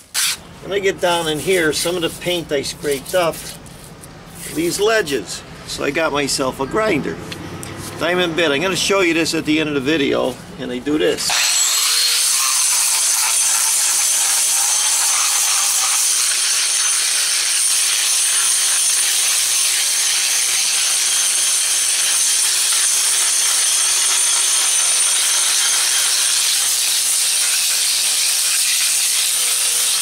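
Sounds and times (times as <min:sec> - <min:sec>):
angle grinder grinding concrete: 0:00.0 - 0:04.9, 0:10.0 - 0:30.0.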